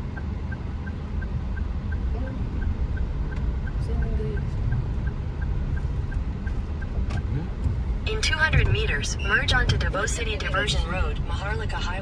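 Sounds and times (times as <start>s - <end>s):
car road and engine rumble: 0.0s - 12.0s
faint high ticking: 0.2s - 10.5s.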